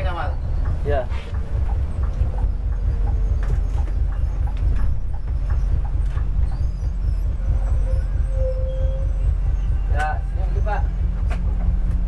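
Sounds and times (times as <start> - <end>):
bus engine rumble: 0.0 - 12.0
light rattles and knocks: 0.0 - 12.0.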